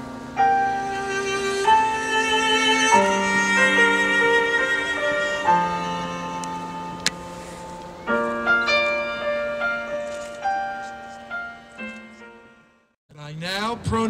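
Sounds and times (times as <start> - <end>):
violin long held notes: 0.0 - 12.6
sustained chords: 0.0 - 12.9.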